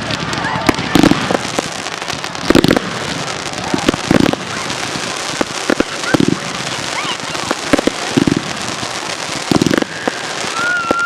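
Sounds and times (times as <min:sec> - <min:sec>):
fireworks crackling and popping: 0:00.0 - 0:11.0
loud firework bangs: 0:00.0 - 0:11.0.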